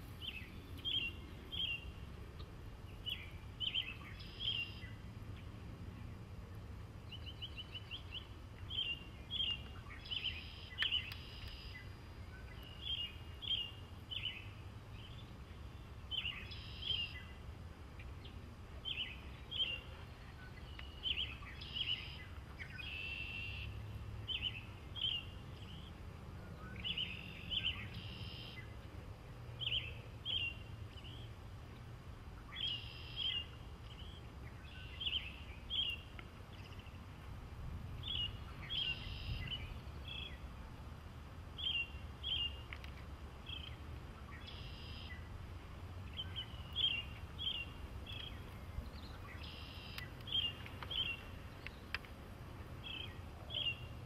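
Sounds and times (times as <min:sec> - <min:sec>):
small birds chirping: 0:00.0 - 0:17.4, 0:18.0 - 0:29.0, 0:29.6 - 0:37.3, 0:38.0 - 0:40.7, 0:41.6 - 0:45.4, 0:46.0 - 0:54.0.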